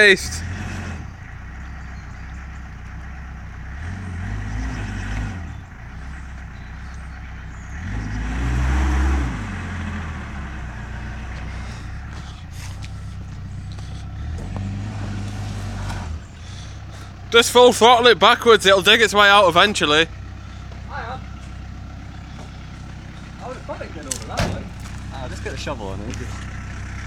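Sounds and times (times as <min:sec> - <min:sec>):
van engine revving: 0:00.0 - 0:27.0.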